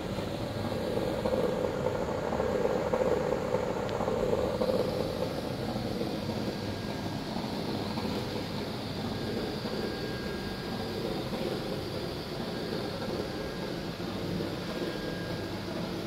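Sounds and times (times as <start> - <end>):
distant mechanical drone: 0.0 - 16.0.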